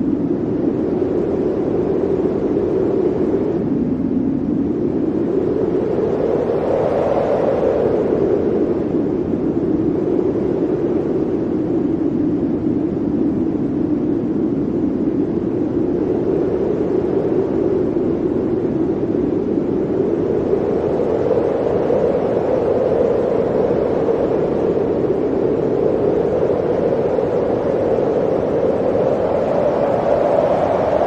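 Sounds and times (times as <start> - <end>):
blizzard wind blowing: 0.0 - 31.0.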